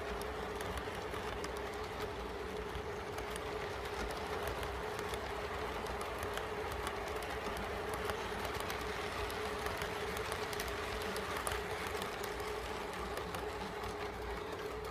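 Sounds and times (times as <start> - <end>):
model train running hum: 0.0 - 14.9.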